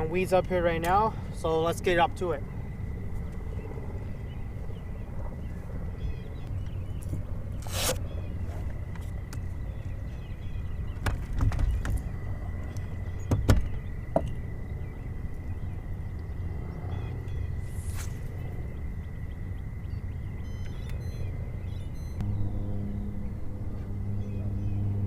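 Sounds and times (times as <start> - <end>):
thin steady whine: 0.0 - 25.0.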